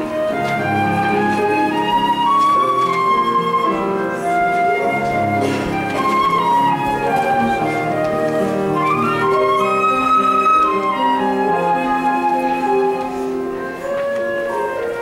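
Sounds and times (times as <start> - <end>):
piano: 0.0 - 15.0.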